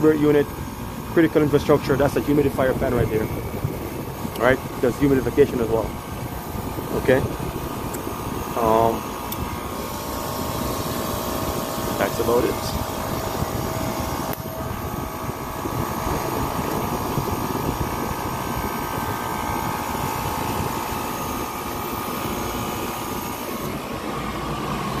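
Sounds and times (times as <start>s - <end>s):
air conditioning unit drone: 0.0s - 25.0s.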